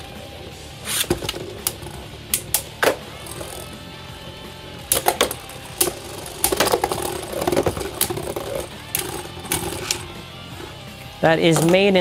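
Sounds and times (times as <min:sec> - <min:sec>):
background music: 0:00.0 - 0:12.0
spinning tops whirring: 0:00.8 - 0:12.0.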